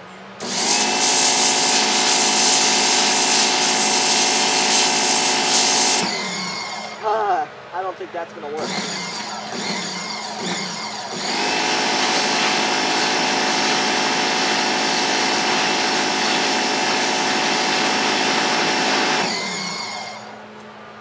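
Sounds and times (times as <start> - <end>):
pressure washer jet hissing: 0.4 - 7.0, 8.6 - 20.4.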